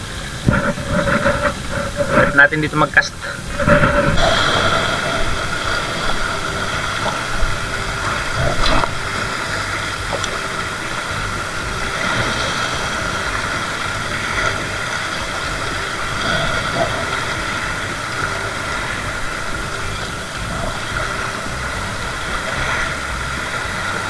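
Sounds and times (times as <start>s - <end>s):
choppy sea water: 0.0s - 24.0s
faint mechanical hum: 0.0s - 24.0s
steady wind: 0.0s - 24.0s.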